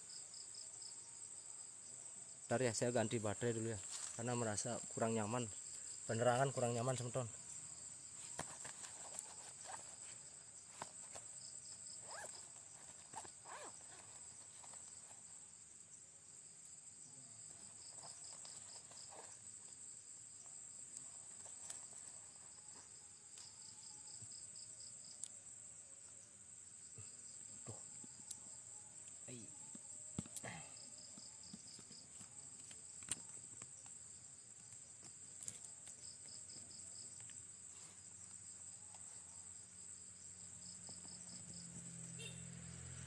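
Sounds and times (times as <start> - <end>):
cricket chirps: 0.0 - 43.0
insect drone: 0.0 - 43.0.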